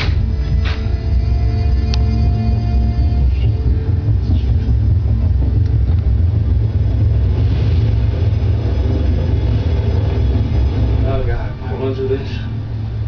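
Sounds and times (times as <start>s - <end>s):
helicopter rotor rumble: 0.0s - 13.0s.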